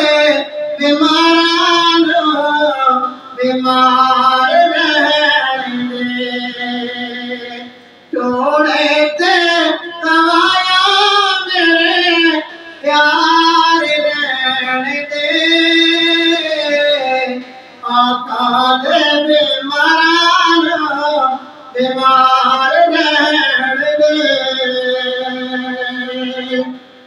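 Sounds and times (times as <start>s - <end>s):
man singing unaccompanied: 0.0s - 27.0s.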